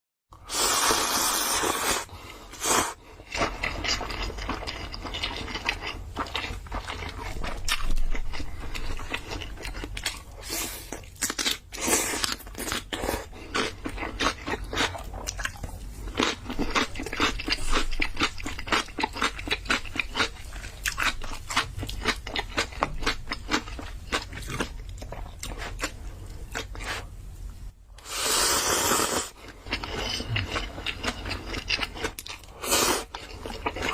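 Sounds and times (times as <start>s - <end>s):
wet chewing and crunching: 2.8s - 27.1s, 29.3s - 33.9s.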